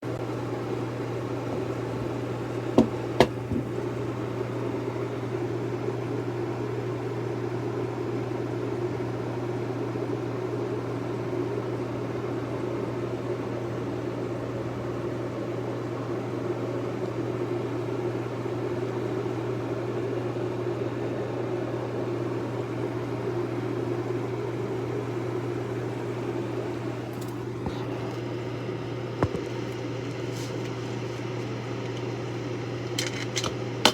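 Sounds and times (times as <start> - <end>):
mechanical hum: 0.0 - 33.9.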